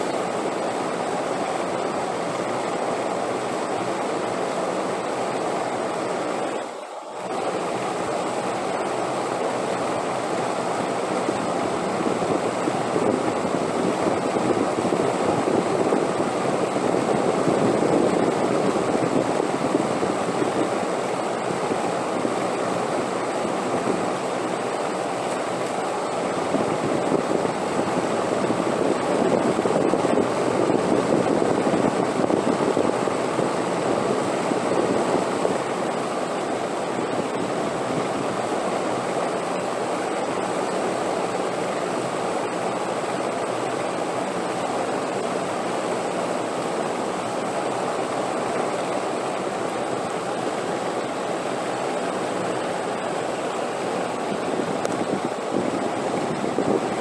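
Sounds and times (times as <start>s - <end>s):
rushing wind: 7.3s - 57.0s.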